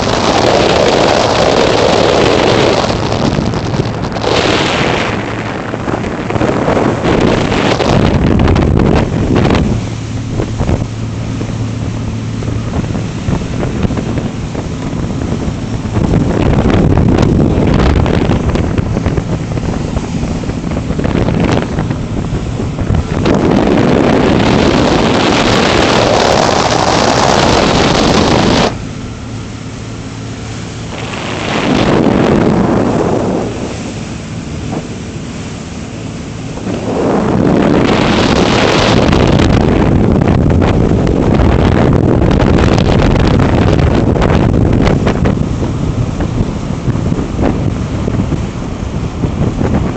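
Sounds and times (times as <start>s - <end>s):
boat engine humming: 0.0s - 49.9s
rushing water: 0.0s - 49.9s
wind buffeting microphone: 0.0s - 49.9s.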